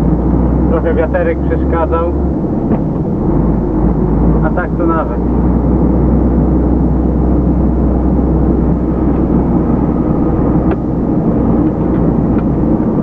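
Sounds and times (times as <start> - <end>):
diesel engine hum: 0.0 - 13.0.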